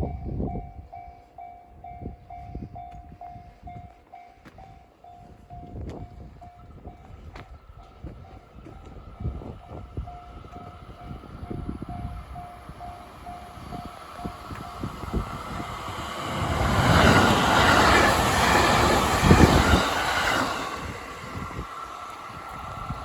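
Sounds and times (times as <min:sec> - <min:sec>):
electric train passing: 0:00.3 - 0:23.0.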